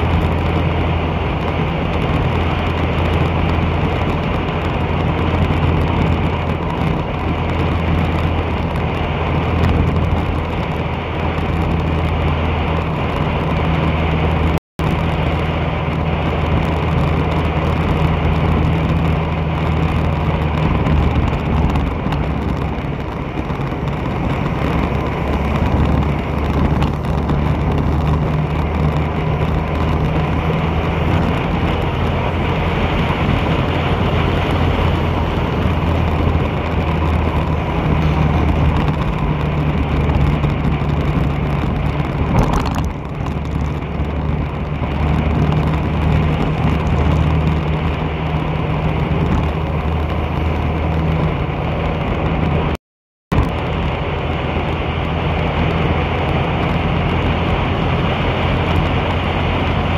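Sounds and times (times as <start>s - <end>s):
road and wind noise: 0.0s - 59.9s
vehicle engine hum: 0.0s - 59.9s.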